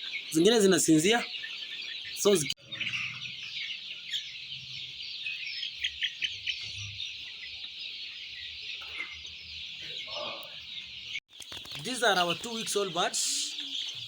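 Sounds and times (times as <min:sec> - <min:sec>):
chickens chirping and clucking: 0:00.0 - 0:14.0.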